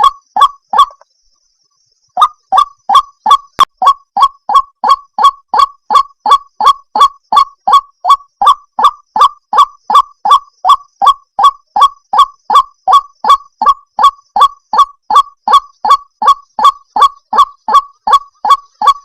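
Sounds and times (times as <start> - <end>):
waterhen calling harsh notes: 0.0 - 1.0, 2.2 - 19.0.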